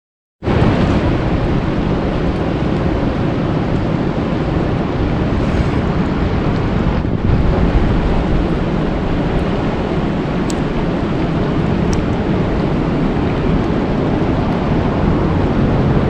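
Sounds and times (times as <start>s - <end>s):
deep rushing ambience: 0.4s - 16.0s.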